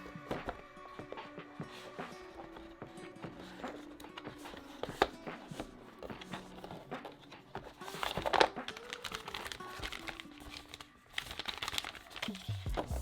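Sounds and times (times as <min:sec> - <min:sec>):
background music: 0:00.0 - 0:13.0
packaging crinkling and rustling: 0:00.0 - 0:13.0.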